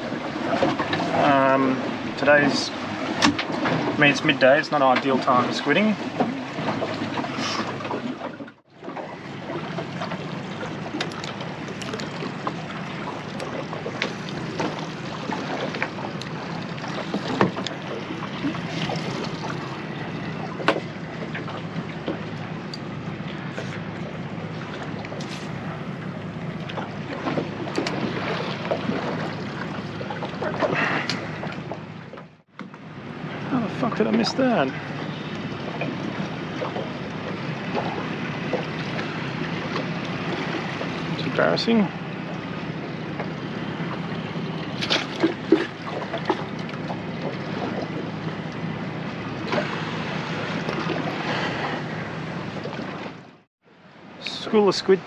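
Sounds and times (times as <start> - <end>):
water noise: 0.0 - 55.0
wind: 0.0 - 55.0.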